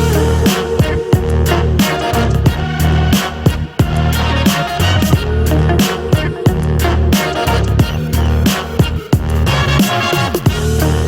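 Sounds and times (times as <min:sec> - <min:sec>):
hip hop beat: 0:00.0 - 0:11.0.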